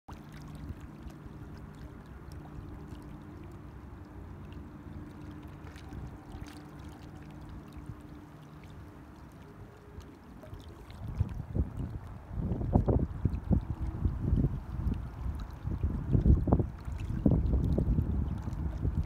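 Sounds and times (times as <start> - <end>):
steady low hum: 0.1 - 19.0
water splashing and trickling: 0.1 - 19.0.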